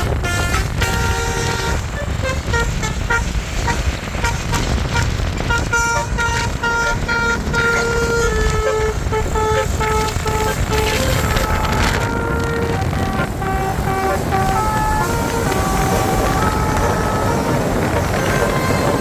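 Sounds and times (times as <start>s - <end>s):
low rumble: 0.0s - 19.0s
multi-tone air horn tune: 0.0s - 19.0s.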